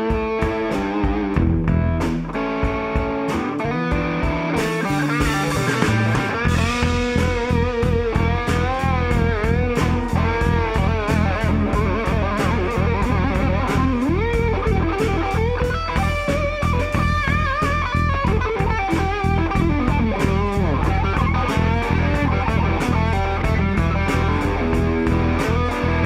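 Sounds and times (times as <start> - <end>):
bass guitar: 0.0 - 26.0
electric guitar lead line: 0.0 - 26.0
steady drum beat: 0.0 - 26.0.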